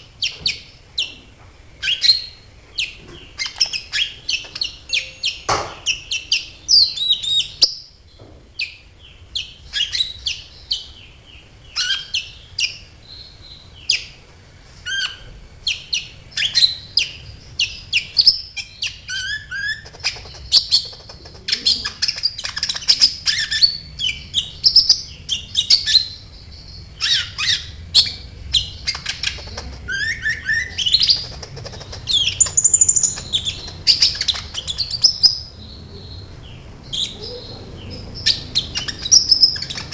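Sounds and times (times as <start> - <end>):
bird chirping and trilling: 1.8 - 8.0, 8.6 - 14.2, 14.8 - 39.9.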